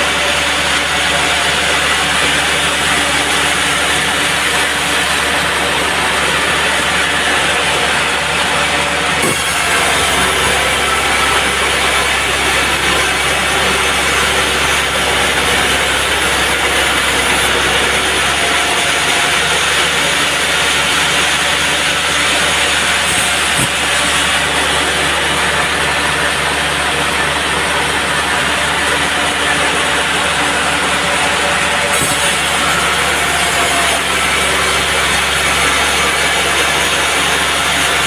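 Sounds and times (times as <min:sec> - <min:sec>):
band sawmill running: 0:00.0 - 0:38.0.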